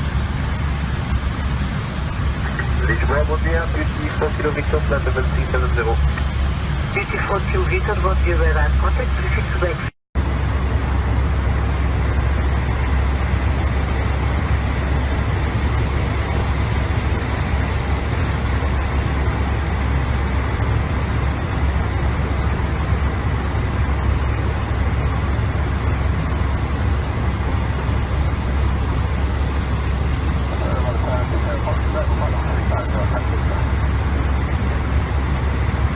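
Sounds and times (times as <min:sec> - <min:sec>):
airflow over cockpit: 0:00.0 - 0:35.9
deep engine rumble: 0:00.0 - 0:35.9.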